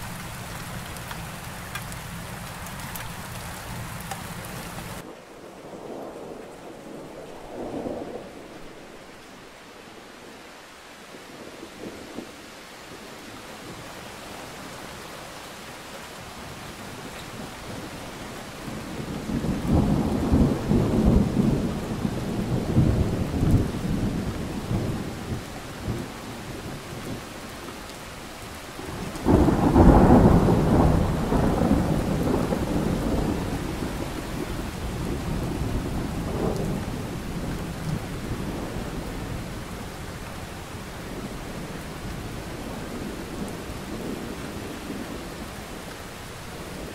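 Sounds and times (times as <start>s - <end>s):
thunder rumbling: 0.0s - 9.6s, 16.7s - 27.3s, 28.7s - 46.9s
steady rain: 0.0s - 46.9s.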